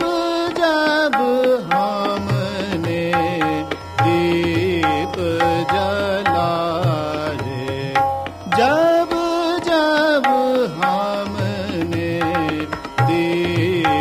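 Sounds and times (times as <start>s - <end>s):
person singing classical melody: 0.0s - 14.0s
tabla strokes: 0.0s - 14.0s
tanpura drone: 0.0s - 14.0s.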